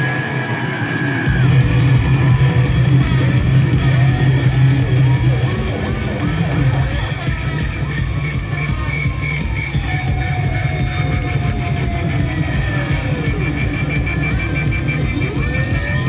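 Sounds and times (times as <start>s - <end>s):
live rock band playing: 1.2s - 16.0s.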